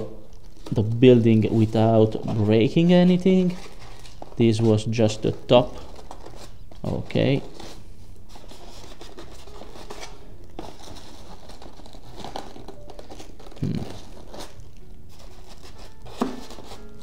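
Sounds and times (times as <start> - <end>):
faint background music: 0.0 - 17.0
plastic wrapping crinkling: 0.0 - 17.0.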